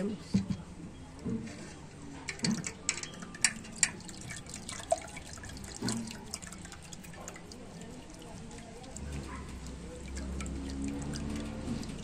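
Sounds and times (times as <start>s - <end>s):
liquid trickling through strainer: 1.2s - 12.0s.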